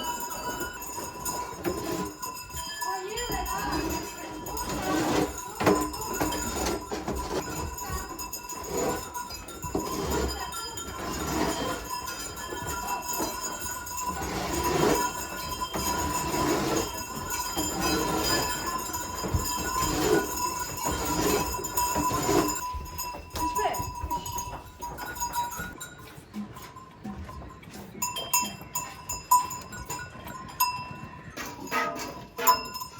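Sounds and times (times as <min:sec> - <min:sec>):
sheep bells jingling: 0:00.0 - 0:32.9.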